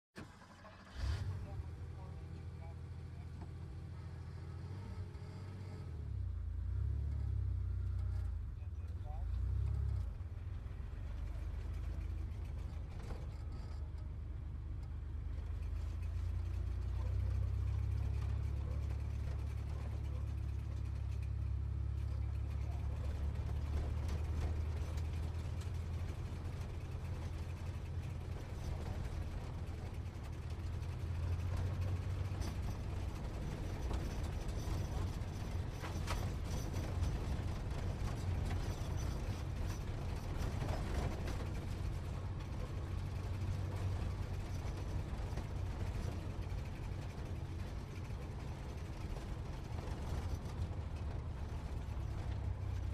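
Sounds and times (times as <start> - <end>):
sports car engine rumble: 0.2 - 52.9.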